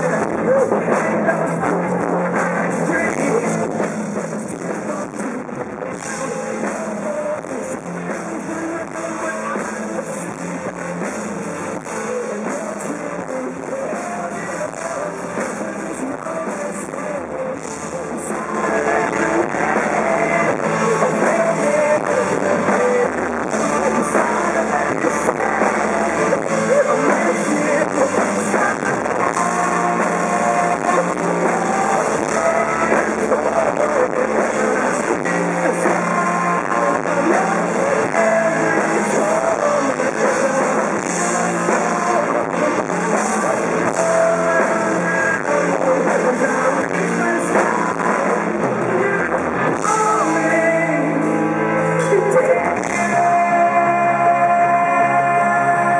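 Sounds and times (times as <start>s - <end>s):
live rock band playing: 0.0s - 55.9s.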